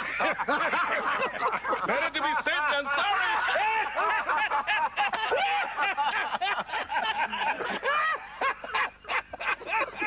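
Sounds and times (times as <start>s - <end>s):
people laughing and chattering: 0.0s - 10.0s.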